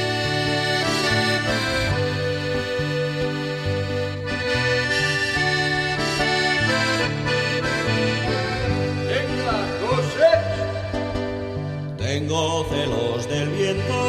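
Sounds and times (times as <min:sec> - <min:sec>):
accordion playing: 0:00.0 - 0:14.0.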